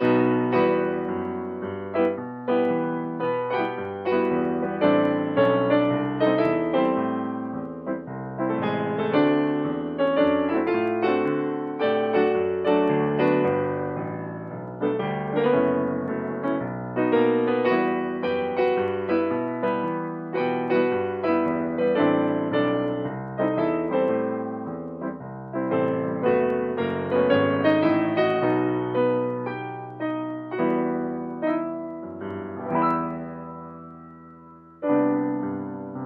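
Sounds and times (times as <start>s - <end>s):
solo piano music: 0.0s - 36.0s.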